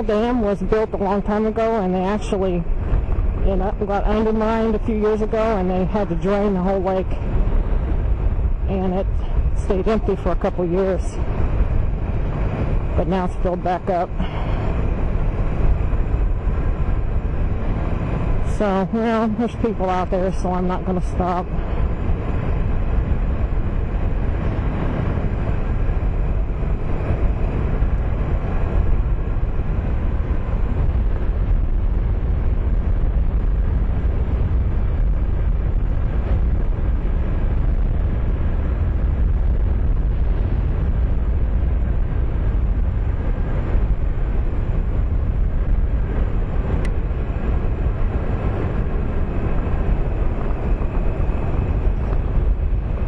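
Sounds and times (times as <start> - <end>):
motorcycle engine running: 0.0 - 53.0
wind on microphone: 0.0 - 53.0.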